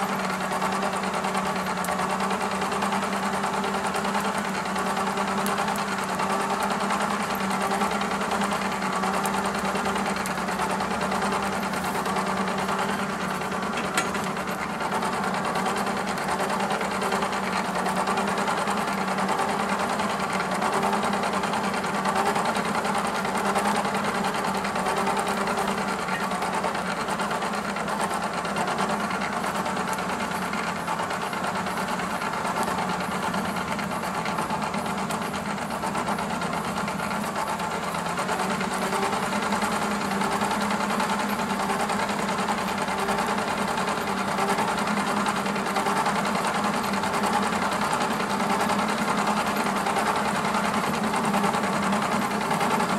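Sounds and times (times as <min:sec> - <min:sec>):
forge humming: 0:00.0 - 0:52.9.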